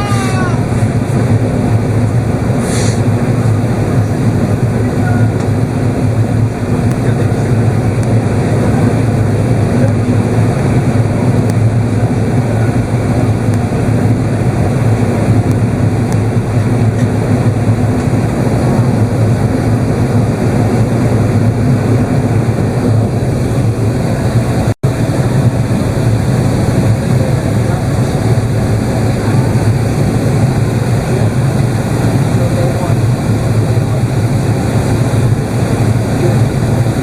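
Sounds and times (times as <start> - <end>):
low engine drone: 0.0 - 37.0
rush of airflow: 0.0 - 37.0.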